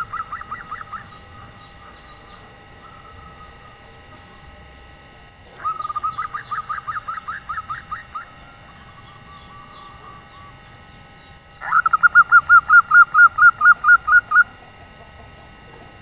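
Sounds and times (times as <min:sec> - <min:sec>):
dove trilling coo: 0:00.0 - 0:04.9, 0:05.5 - 0:16.0
small birds chirping: 0:00.0 - 0:04.9, 0:05.5 - 0:15.9.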